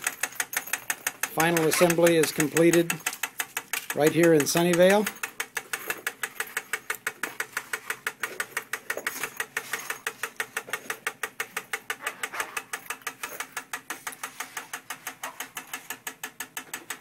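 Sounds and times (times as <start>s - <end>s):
watch ticking: 0.0s - 17.0s.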